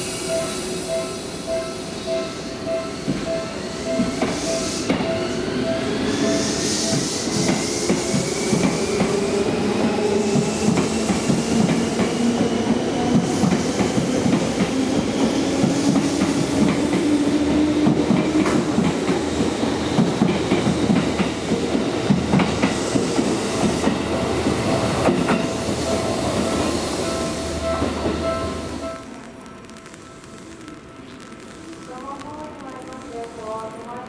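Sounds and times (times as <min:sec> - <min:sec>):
electric train rumbling past: 0:00.0 - 0:33.7.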